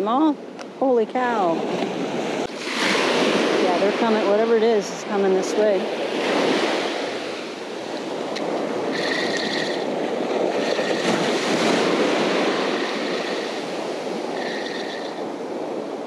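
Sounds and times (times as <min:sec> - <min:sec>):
small waves breaking on sand: 0:01.5 - 0:16.0.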